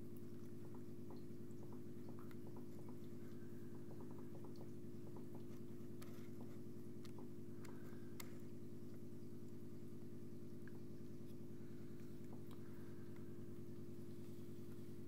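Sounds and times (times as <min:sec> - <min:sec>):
aquarium pump humming: 0:00.0 - 0:15.0
faint small clicks: 0:00.1 - 0:09.6, 0:10.6 - 0:13.8.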